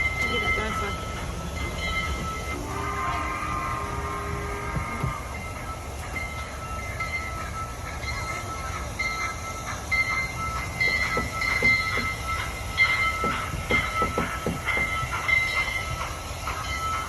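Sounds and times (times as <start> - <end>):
high wheel squeal: 0.0 - 17.0
ride train rumbling on track: 0.0 - 17.0.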